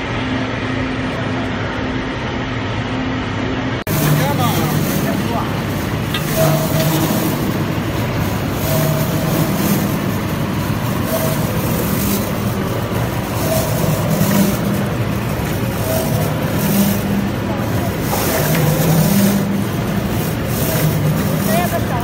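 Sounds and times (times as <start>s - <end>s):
furnace machinery running: 0.0s - 22.0s.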